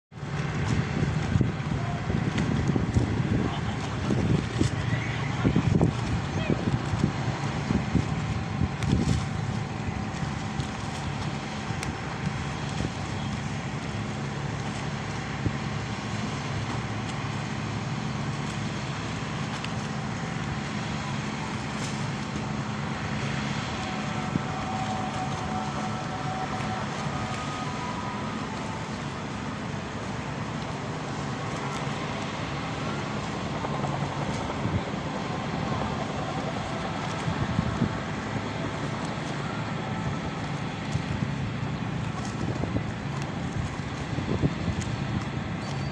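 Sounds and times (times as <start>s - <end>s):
speedboat engine running: 0.1s - 45.9s.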